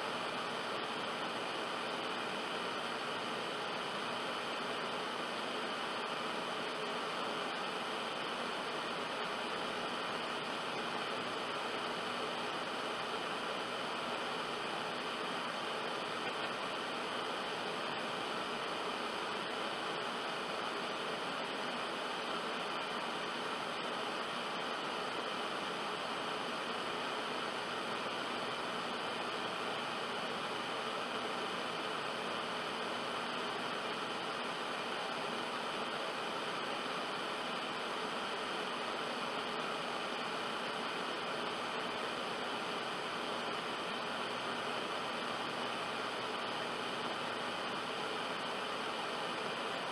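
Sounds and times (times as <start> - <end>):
steady static hiss: 0.0 - 49.9.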